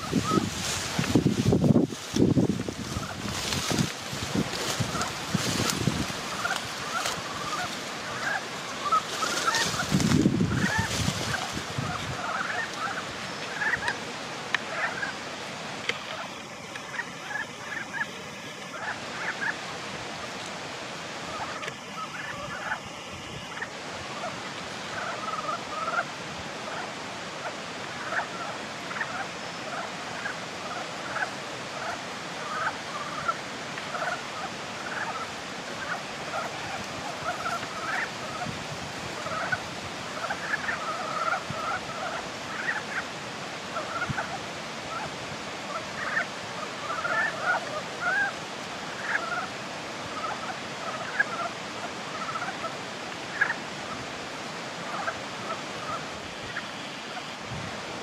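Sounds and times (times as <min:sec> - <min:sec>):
frogs calling: 0:00.0 - 0:58.0
steady background hiss: 0:00.0 - 0:58.0.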